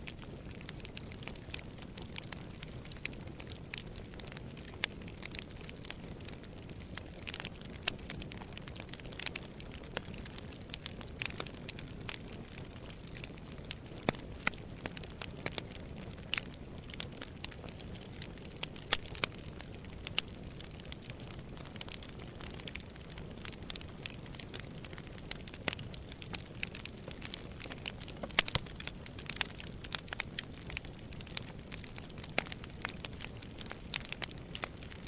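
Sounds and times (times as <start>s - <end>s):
fire crackling and popping: 0.0s - 35.0s.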